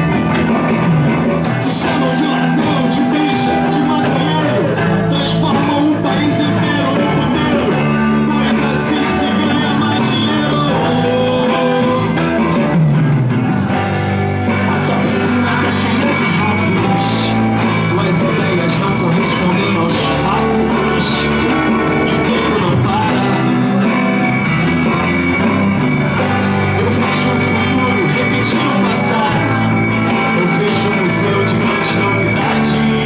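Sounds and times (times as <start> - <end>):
drum kit: 0.0 - 33.0
electric bass: 0.0 - 33.0
electric guitars: 0.0 - 33.0.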